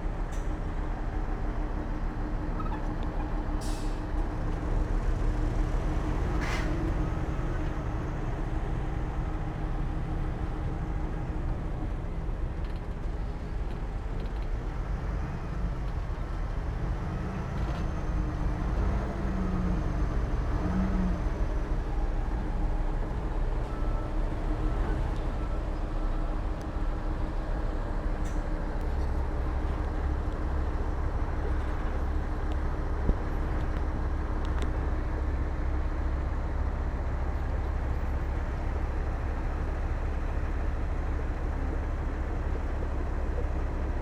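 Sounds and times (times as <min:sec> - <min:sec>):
diesel machinery rumbling: 0:00.0 - 0:44.0.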